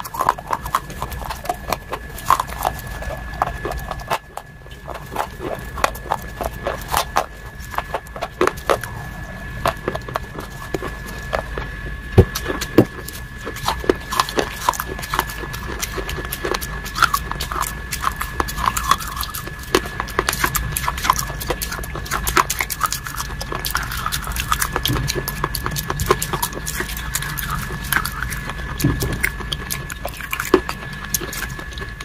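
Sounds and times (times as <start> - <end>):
wet chewing and mouth sounds: 0.0 - 32.0.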